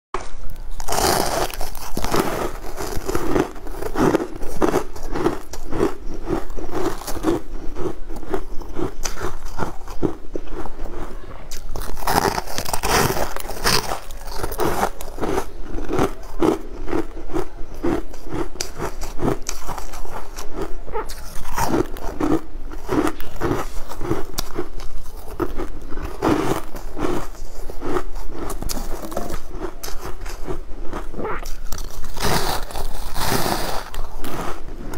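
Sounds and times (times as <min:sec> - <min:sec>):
crunching frozen ice crystals: 0:00.5 - 0:34.9.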